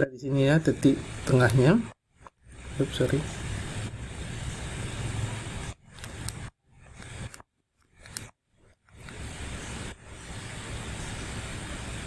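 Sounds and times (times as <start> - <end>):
background hiss: 0.0 - 7.3, 9.0 - 12.0.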